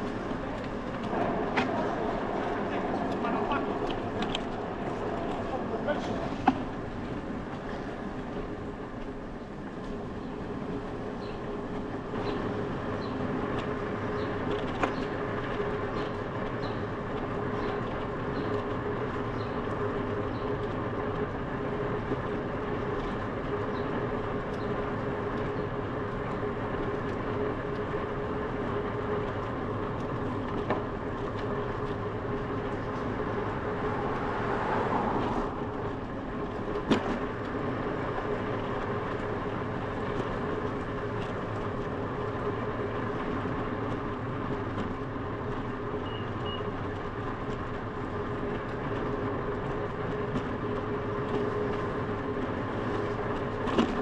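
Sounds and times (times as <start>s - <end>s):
tyre and wind noise: 0.0s - 54.0s.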